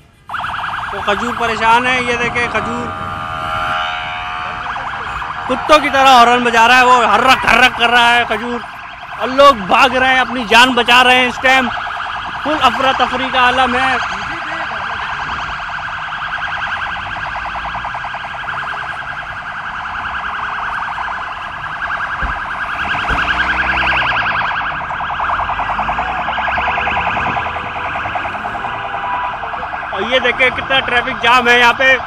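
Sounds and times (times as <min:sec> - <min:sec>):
wailing siren: 0:00.0 - 0:32.0
warbling emergency siren: 0:00.0 - 0:32.0.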